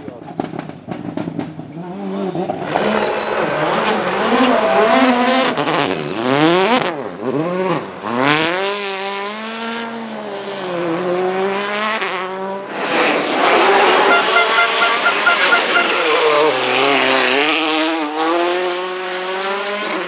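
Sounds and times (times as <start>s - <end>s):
rally car engine revving: 0.4s - 20.0s.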